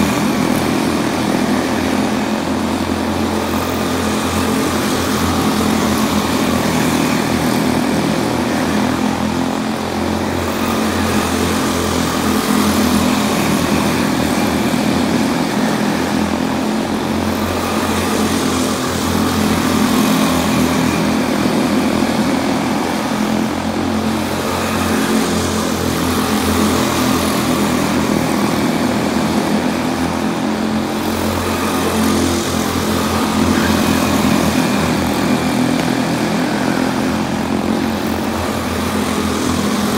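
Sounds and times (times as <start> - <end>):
small race car engines buzzing: 0.0 - 39.9.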